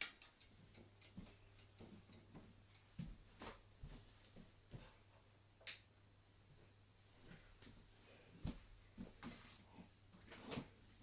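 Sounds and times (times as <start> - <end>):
fluorescent light mains hum: 0.0 - 11.0.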